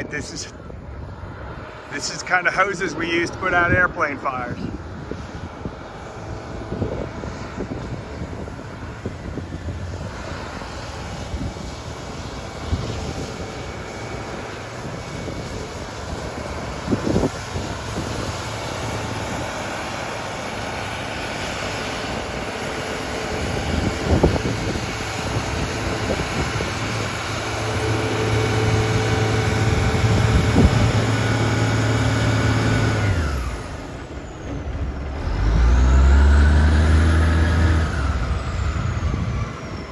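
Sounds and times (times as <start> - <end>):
diesel engine under pump load: 0.0 - 39.9.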